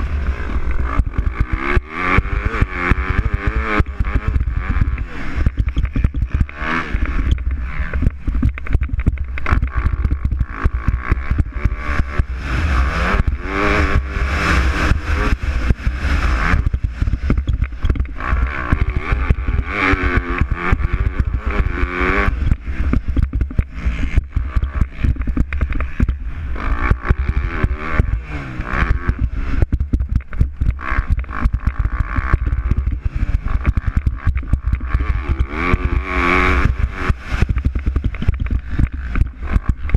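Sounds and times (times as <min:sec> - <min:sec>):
deep engine rumble: 0:00.0 - 0:39.9
motocross bike engines revving: 0:00.0 - 0:39.9.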